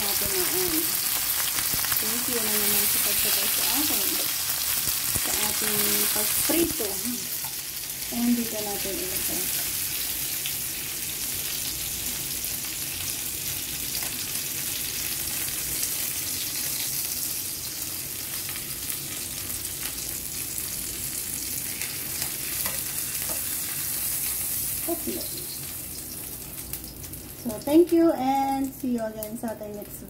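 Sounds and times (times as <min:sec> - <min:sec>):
fish frying in oil: 0:00.0 - 0:29.5.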